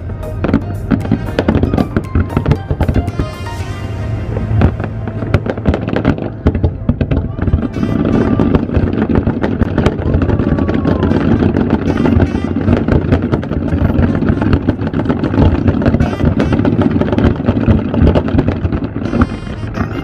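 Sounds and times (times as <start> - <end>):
fireworks bangs and crackling: 0.0 - 20.0
low rumble: 0.0 - 20.0.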